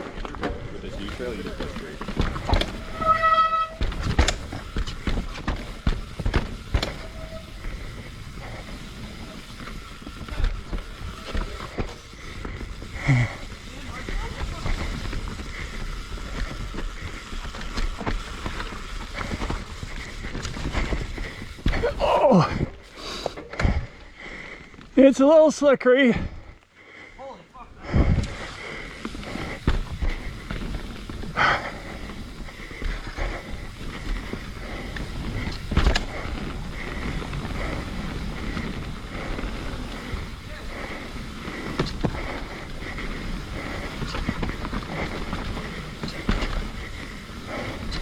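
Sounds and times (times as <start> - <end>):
low rumble of tyres: 0.0 - 22.9, 28.0 - 48.0
bike rattling and knocking: 0.0 - 24.9, 27.9 - 48.0.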